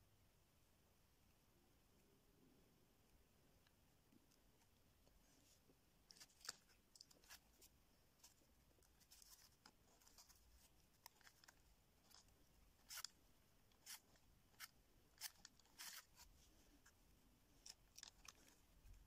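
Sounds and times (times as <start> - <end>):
faint clicks and rustles of fingers: 3.5 - 19.0.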